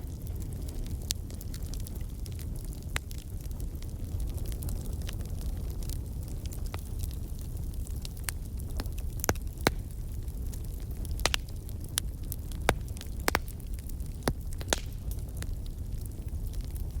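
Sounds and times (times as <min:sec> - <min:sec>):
fire pops and snaps: 0:00.0 - 0:17.0
low rumble of fire: 0:00.0 - 0:17.0.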